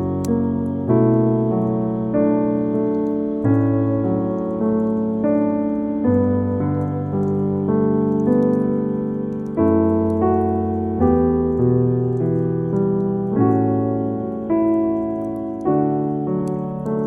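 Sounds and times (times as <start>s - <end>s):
faint crackles: 0.0s - 17.0s
gentle solo piano chords: 0.0s - 17.0s.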